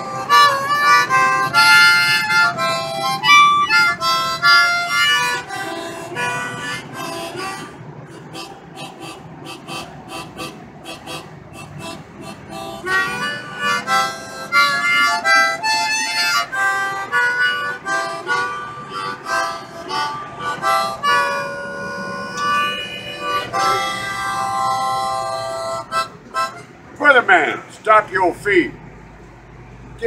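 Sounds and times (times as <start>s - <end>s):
harmonica playing: 0.0s - 27.2s.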